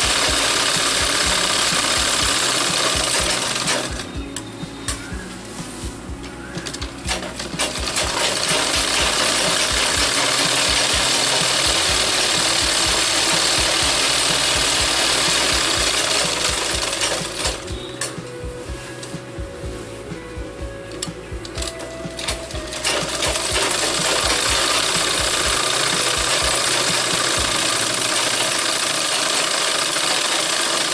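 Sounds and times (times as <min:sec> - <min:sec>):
sewing machine stitching: 0:00.0 - 0:04.1, 0:06.6 - 0:18.0, 0:21.6 - 0:30.9.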